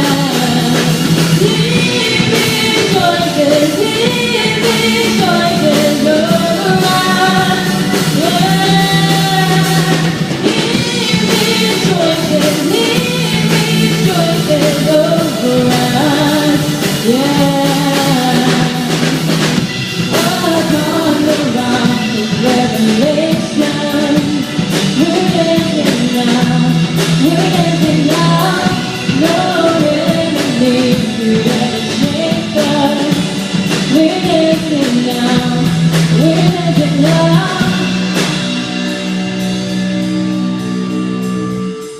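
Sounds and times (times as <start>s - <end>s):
people singing: 0.0s - 38.9s
drum kit: 0.0s - 41.9s
guitar: 0.0s - 41.9s.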